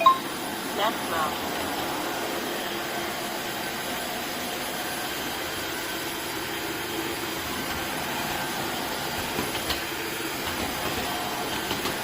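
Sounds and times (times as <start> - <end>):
floor washer motor whirring: 0.0 - 12.0.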